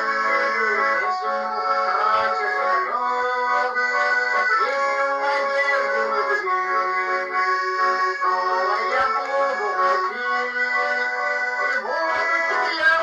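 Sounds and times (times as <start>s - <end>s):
instrumental music of held chords: 0.0s - 13.0s.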